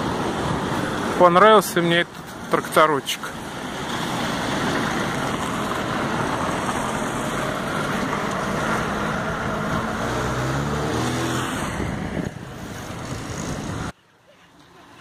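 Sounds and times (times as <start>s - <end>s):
road vehicle noise: 0.0s - 15.0s.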